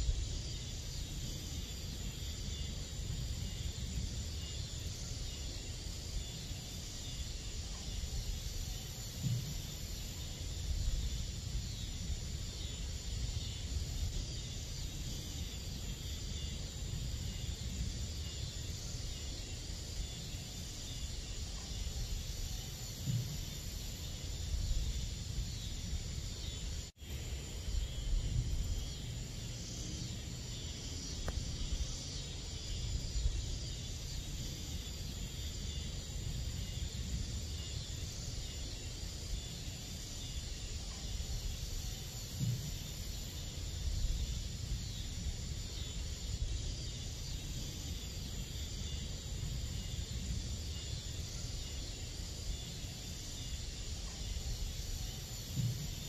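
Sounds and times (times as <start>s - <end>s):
crickets and night insects chirping: 0.0s - 56.0s.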